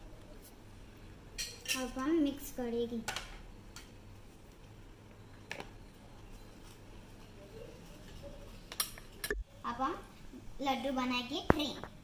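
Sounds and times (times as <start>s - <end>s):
faint low room hum: 0.0s - 12.0s.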